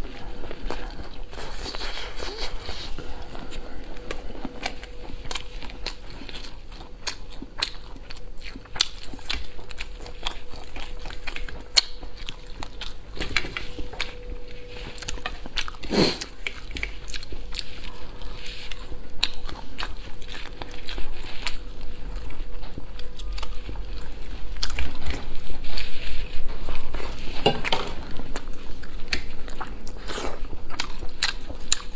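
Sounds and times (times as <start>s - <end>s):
faint steady hum: 0.0s - 31.9s
person chewing crispy food: 0.0s - 31.9s.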